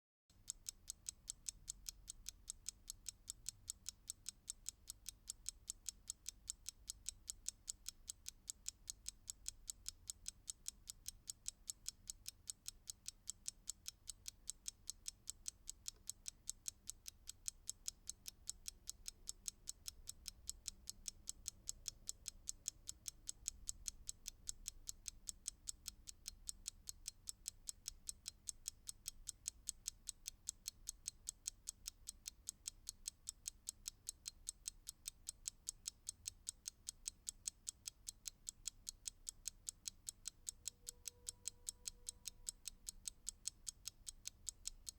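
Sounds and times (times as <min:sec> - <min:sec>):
mechanical timer ticking: 0:00.3 - 0:44.9.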